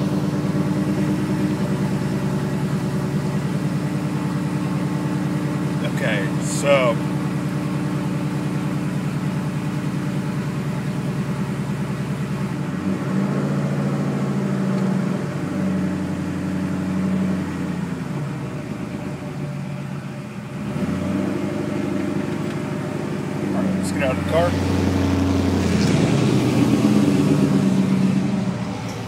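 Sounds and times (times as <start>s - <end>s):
engine running roughly: 0.0s - 29.0s.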